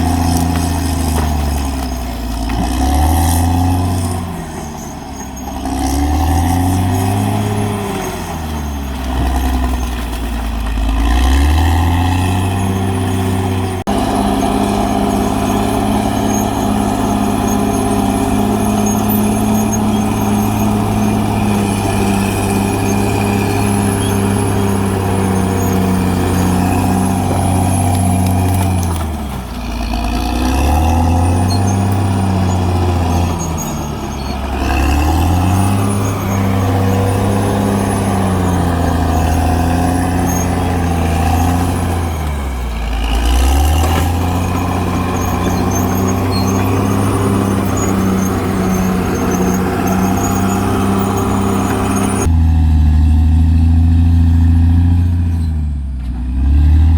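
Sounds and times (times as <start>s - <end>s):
bulldozer diesel engine revving: 0.0s - 56.9s.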